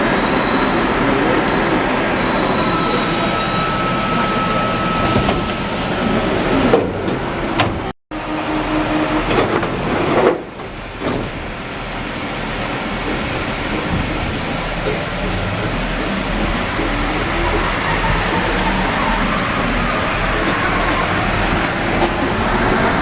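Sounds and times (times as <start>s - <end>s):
train rolling noise: 0.0s - 23.0s.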